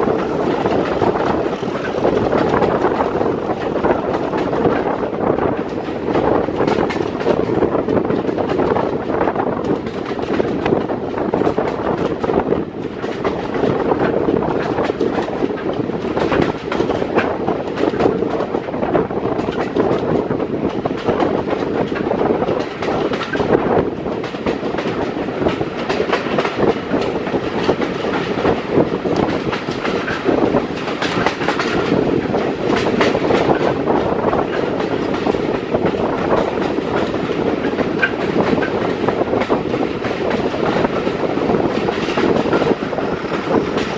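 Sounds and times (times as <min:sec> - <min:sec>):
steel wheels on rail: 0:00.0 - 0:43.9
wheels clacking over rail joints: 0:00.0 - 0:43.9.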